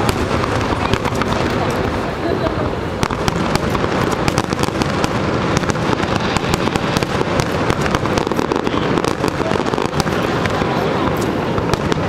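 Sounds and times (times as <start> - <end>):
fireworks bursts and crackling: 0.0 - 12.0
loud rumble: 0.0 - 12.0.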